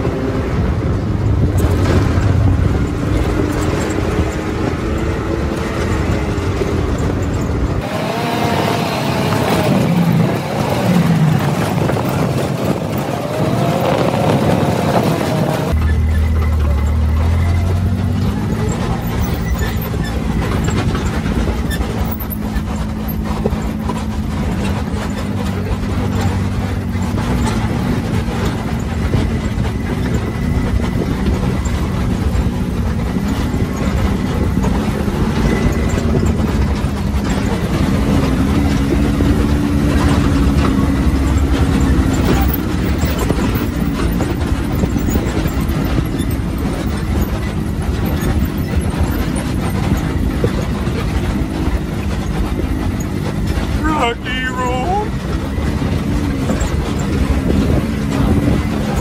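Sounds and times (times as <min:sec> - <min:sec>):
off-road vehicle engine rumbling: 0:00.0 - 0:59.0.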